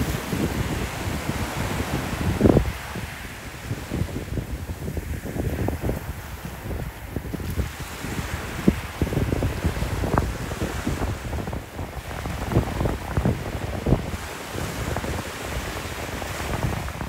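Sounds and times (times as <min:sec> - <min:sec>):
small waves washing on shore: 0:00.0 - 0:17.0
wind buffeting microphone: 0:00.0 - 0:17.0.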